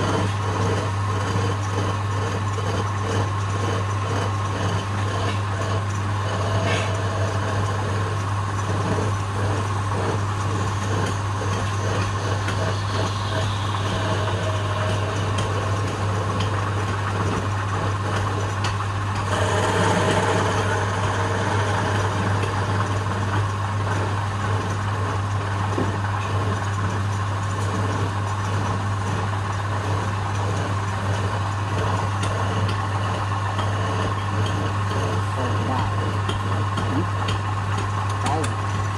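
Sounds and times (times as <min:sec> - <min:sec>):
lathe motor humming: 0:00.0 - 0:38.9.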